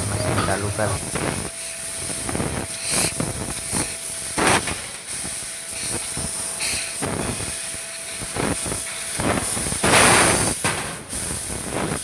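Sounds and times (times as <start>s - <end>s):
laser cutter hissing: 0.0s - 12.0s.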